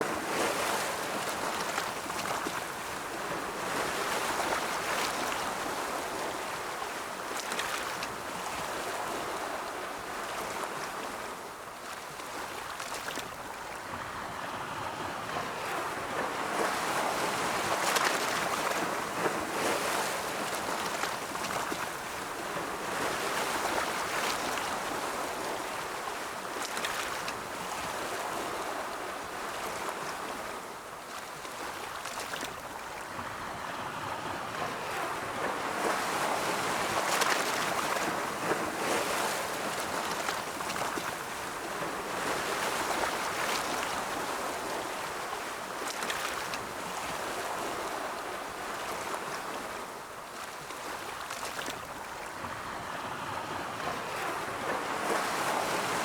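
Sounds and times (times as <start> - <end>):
ocean waves rolling in: 0.0 - 56.0.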